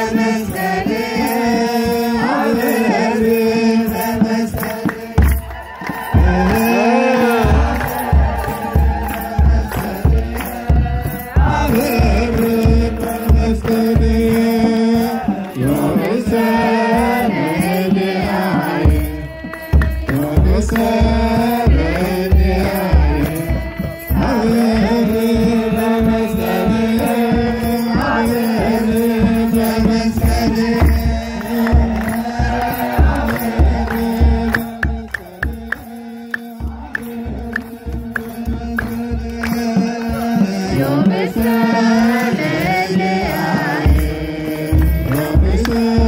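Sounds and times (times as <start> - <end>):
large drum beaten in steady pulse: 0.0 - 46.0
men chanting in unison: 0.0 - 46.0.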